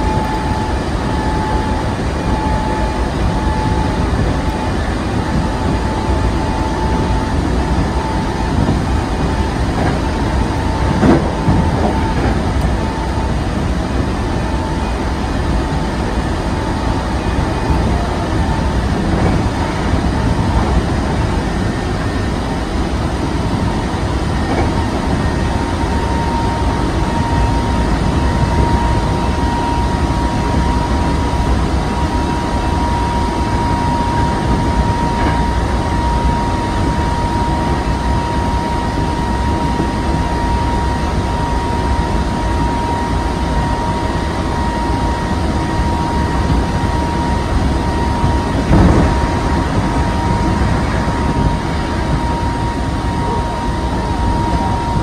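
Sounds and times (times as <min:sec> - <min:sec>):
electric train rumbling: 0:00.0 - 0:55.0
high whine: 0:00.0 - 0:55.0
train jolt: 0:00.0 - 0:55.0.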